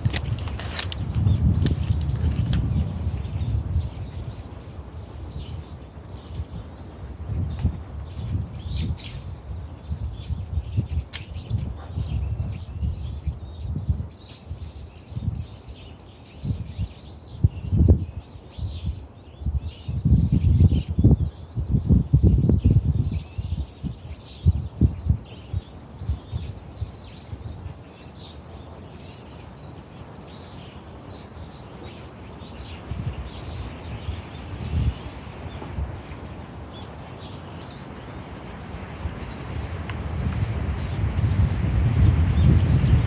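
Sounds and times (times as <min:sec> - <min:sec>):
small birds chirping: 0:00.0 - 0:43.0
wind rumbling on microphone: 0:00.0 - 0:43.0.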